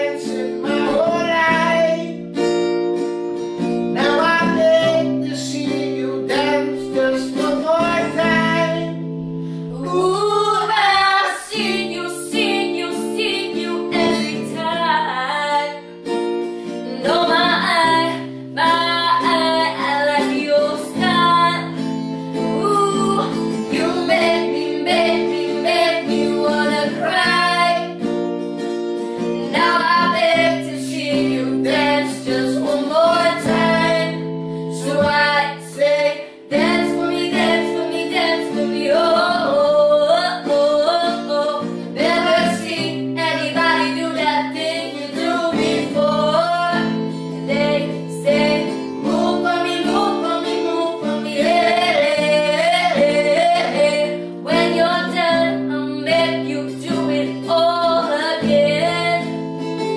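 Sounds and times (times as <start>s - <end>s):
man and woman singing: 0.0s - 2.3s, 3.9s - 15.8s, 16.6s - 28.0s, 29.4s - 59.5s
acoustic guitar strumming: 0.0s - 59.9s.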